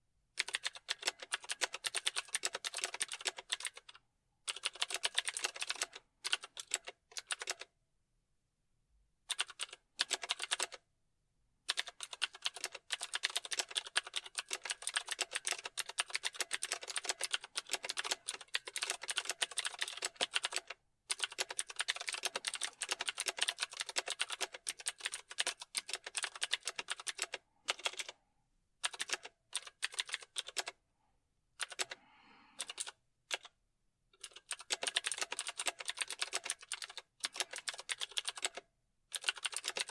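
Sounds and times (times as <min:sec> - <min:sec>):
fast keyboard typing: 0:00.4 - 0:07.7, 0:09.3 - 0:10.8, 0:11.7 - 0:28.2, 0:28.8 - 0:30.8, 0:31.6 - 0:32.0, 0:32.6 - 0:33.6, 0:34.2 - 0:39.9.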